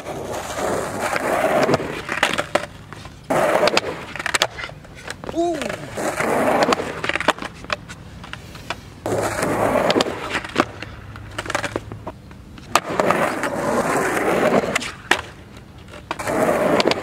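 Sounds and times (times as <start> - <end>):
skateboard deck clacking on ground: 0.0 - 17.0
skateboard wheels rolling on concrete: 0.0 - 17.0.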